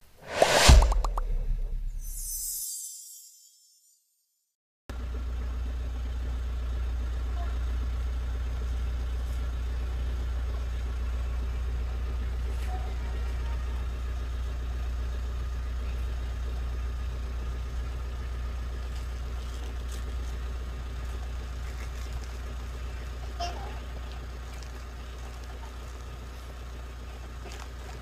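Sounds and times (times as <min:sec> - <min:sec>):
low engine hum: 0:04.9 - 0:28.0.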